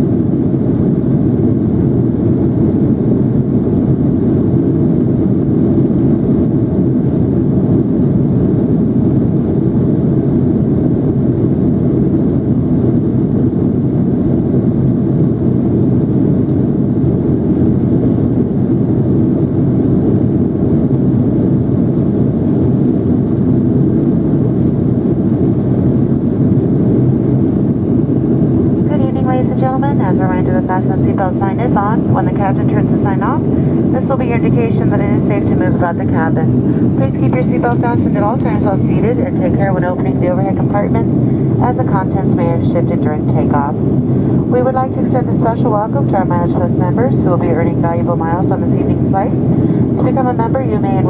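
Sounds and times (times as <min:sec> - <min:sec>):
airplane cabin engine drone: 0:00.0 - 0:51.0.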